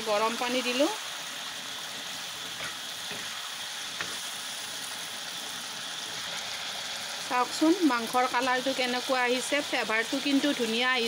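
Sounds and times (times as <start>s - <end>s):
curry sizzling and bubbling: 0.0s - 11.0s.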